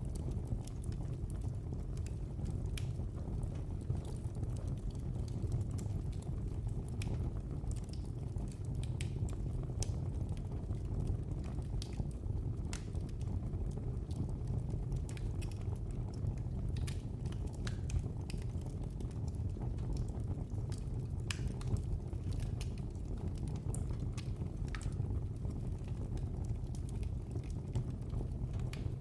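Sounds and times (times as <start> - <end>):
fire pops and snaps: 0.0 - 29.0
fire rumbling in fireplace: 0.0 - 29.0.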